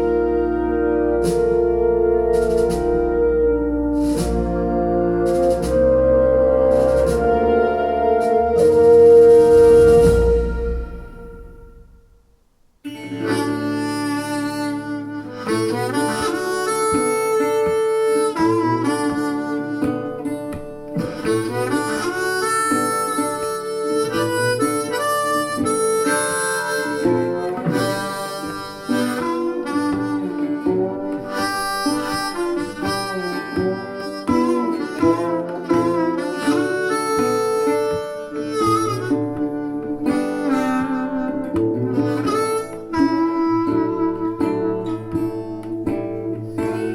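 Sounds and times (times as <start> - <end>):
instrumental music over loudspeakers: 0.0 - 11.9, 13.1 - 46.9.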